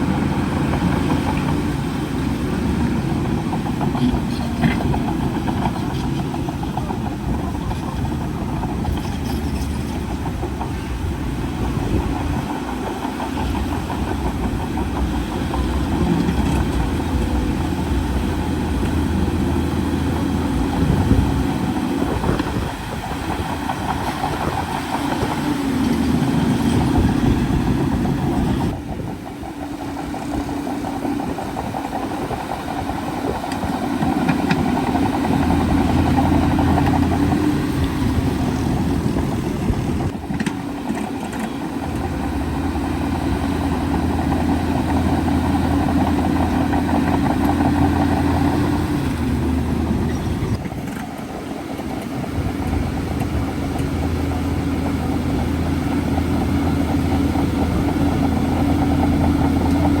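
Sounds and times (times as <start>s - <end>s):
bulldozer diesel engine running: 0.0s - 60.0s.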